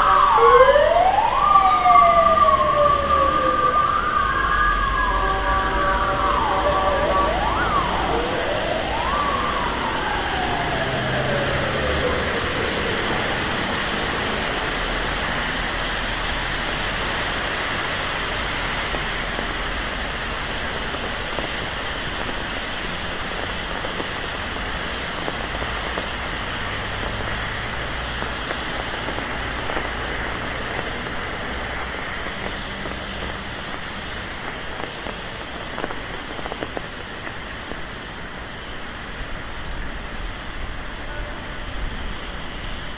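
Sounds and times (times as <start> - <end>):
ambulance siren wail: 0.0 - 36.6
light traffic: 0.0 - 42.9
rain on street: 0.0 - 42.9.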